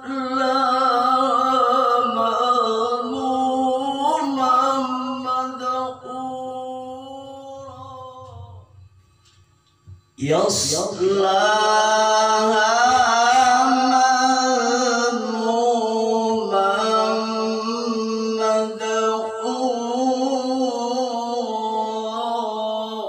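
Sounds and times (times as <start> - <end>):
man reciting in long ornamented note: 0.0 - 8.9, 10.2 - 23.0.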